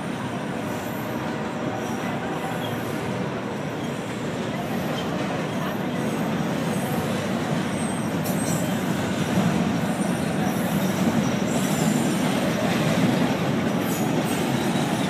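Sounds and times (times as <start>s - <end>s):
freight train wheels rumbling: 0.0s - 15.0s
train wheels squealing: 0.0s - 15.0s.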